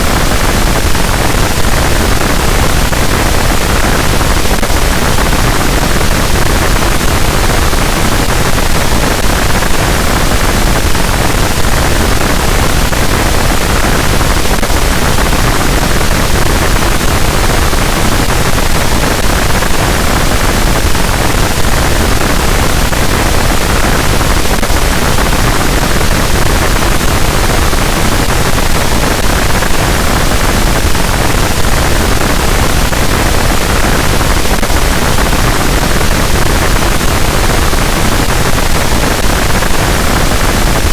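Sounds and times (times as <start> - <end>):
harsh static noise wall: 0.0 - 40.9.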